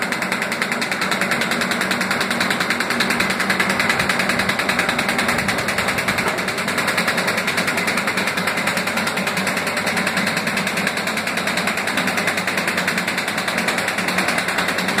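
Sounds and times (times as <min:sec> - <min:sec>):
machine mechanical clatter: 0:00.0 - 0:15.0.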